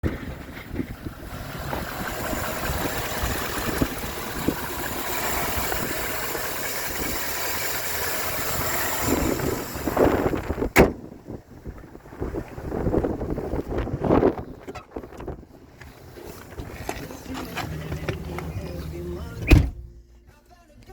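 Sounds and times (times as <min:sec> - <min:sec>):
truck engine running: 0:00.0 - 0:20.4.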